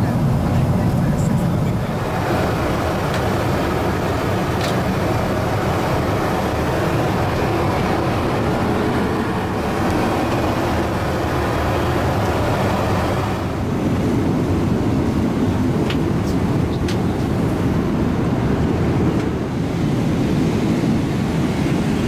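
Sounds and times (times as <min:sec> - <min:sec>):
airplane cabin engine rush: 0:00.0 - 0:22.0.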